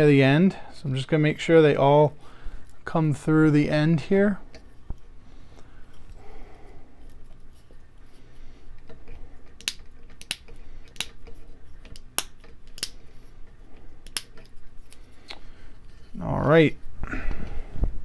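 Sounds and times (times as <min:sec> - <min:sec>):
wires rustling: 0:02.5 - 0:18.0.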